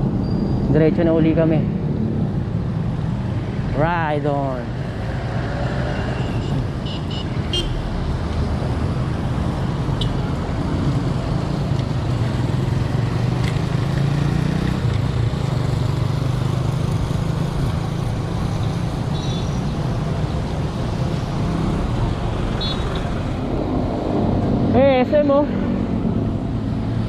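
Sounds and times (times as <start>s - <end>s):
bicycle road noise: 0.0s - 27.0s
motor traffic: 0.0s - 27.0s.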